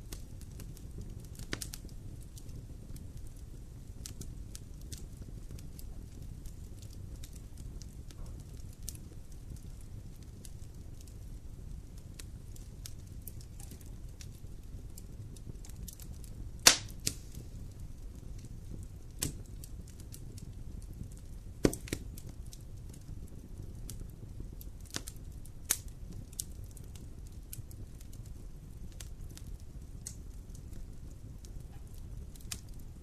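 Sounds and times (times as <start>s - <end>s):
burning wood popping and cracking: 0.0s - 33.0s
campfire low rumble: 0.0s - 33.0s.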